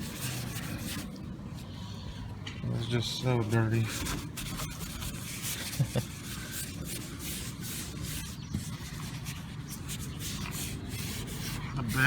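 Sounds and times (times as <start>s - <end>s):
wipe scrubbing car paint: 0.0s - 1.2s, 3.2s - 12.0s.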